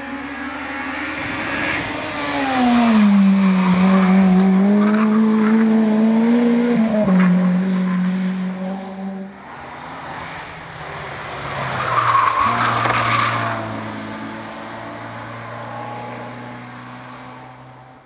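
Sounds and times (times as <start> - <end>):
race car engine at high revs: 0.0 - 18.0
second race car engine: 0.0 - 18.0.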